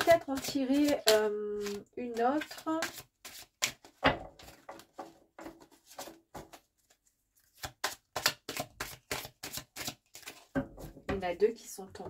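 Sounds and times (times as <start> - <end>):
cards shuffling: 0.0 - 10.5.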